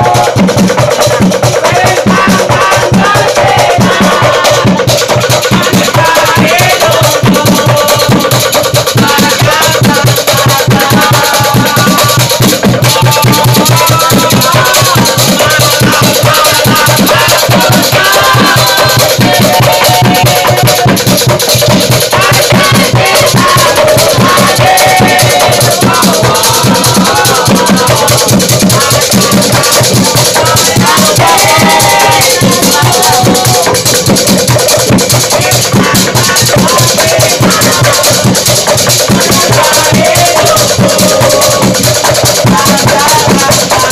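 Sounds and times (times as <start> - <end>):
driving drum beat: 0.0 - 43.9
young men chanting: 0.0 - 43.9.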